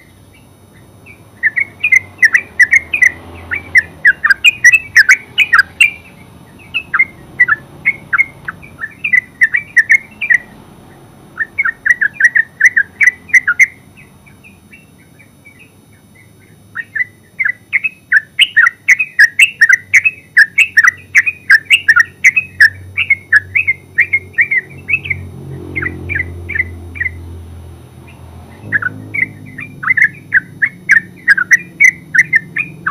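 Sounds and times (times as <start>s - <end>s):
bird singing bubbling notes: 0.0s - 10.5s, 11.4s - 14.9s, 15.5s - 27.2s, 28.5s - 32.9s.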